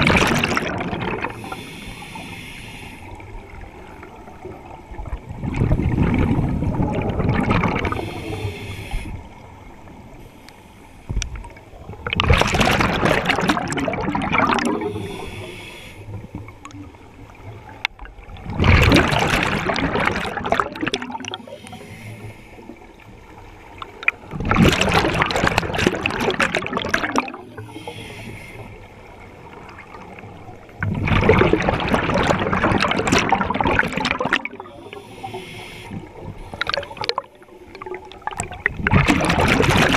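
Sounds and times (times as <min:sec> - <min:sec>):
exhaled bubbles gurgling: 0:00.0 - 0:02.2, 0:03.1 - 0:09.0, 0:11.4 - 0:21.8, 0:23.8 - 0:28.3, 0:29.3 - 0:39.9.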